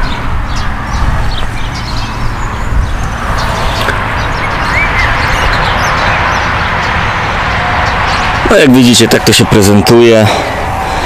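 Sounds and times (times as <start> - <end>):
birds chirping: 0.0 - 11.0
wind buffeting microphone: 0.0 - 11.0.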